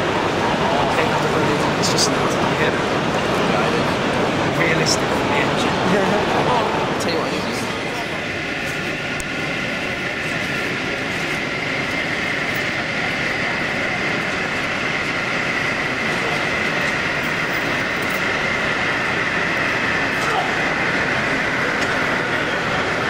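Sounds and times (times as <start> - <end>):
model train running: 0.0 - 23.0.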